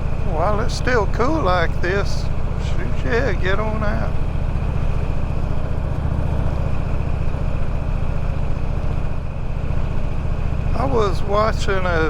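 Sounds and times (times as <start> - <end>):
motorcycle engine drone: 0.0 - 12.0
road noise: 0.0 - 12.0.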